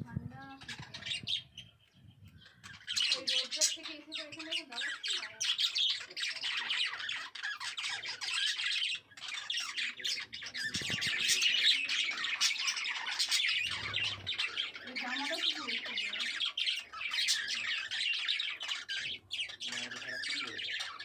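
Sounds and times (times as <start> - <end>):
budgerigars chattering and squawking: 0.3 - 21.0.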